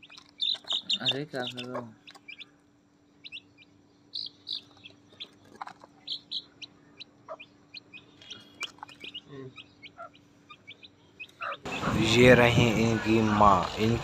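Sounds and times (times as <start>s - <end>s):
chicks peeping: 0.0s - 14.0s
lower bird calls: 0.0s - 14.0s.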